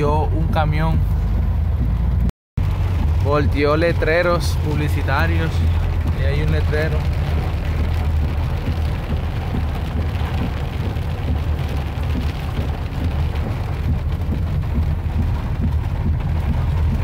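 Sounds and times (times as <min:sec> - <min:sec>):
rain hissing on car: 0:00.0 - 0:17.0
wind rumbling: 0:00.0 - 0:17.0.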